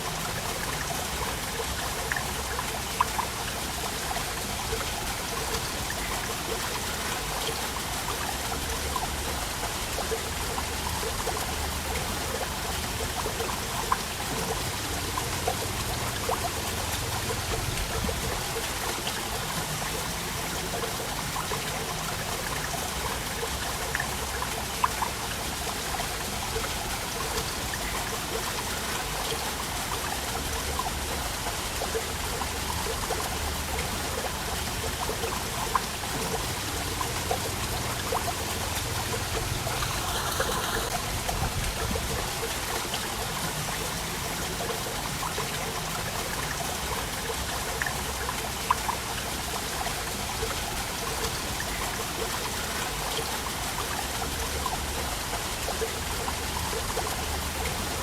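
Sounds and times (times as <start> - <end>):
water splashes and drips: 0.0 - 58.0
waterfall rushing: 0.0 - 58.0.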